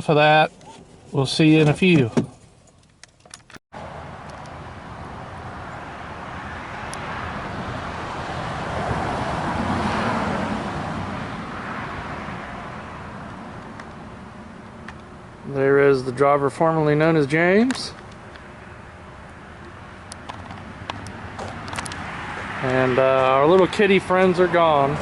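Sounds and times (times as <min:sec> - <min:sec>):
car road noise: 0:00.0 - 0:25.0.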